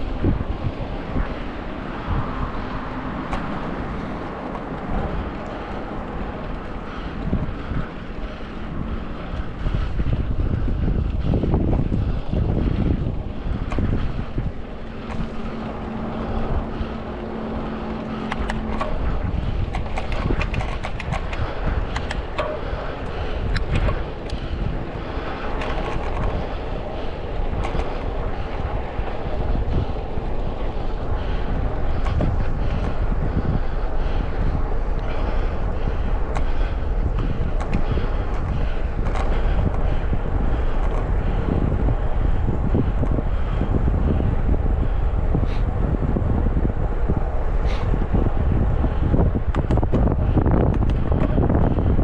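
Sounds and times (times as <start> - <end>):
road traffic: 0.0 - 52.0
steady low hum: 0.0 - 52.0
wind rushing over microphone: 0.0 - 52.0.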